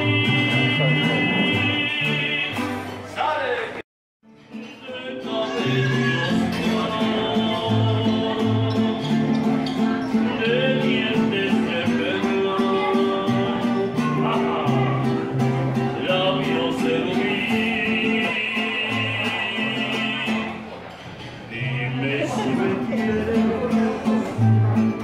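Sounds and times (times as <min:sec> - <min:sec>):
strummed guitar chords: 0:00.0 - 0:03.2, 0:04.2 - 0:20.8, 0:21.5 - 0:25.0
man singing: 0:00.0 - 0:03.8, 0:04.5 - 0:20.6, 0:21.5 - 0:25.0
acoustic guitars plucking bass line: 0:00.0 - 0:25.0.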